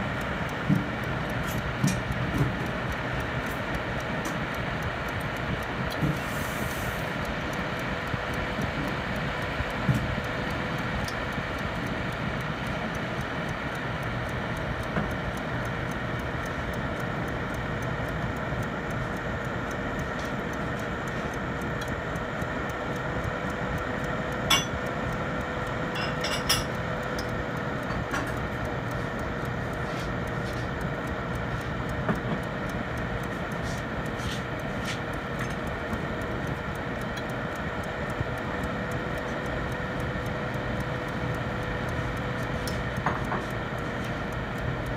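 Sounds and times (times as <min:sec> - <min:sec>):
fan motor humming and whining: 0:00.0 - 0:44.9.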